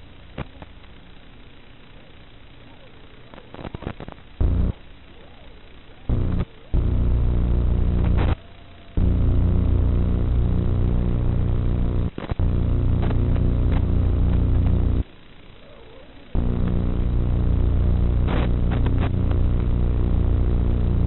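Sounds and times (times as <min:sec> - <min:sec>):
steady electrical buzz: 0:00.0 - 0:21.0.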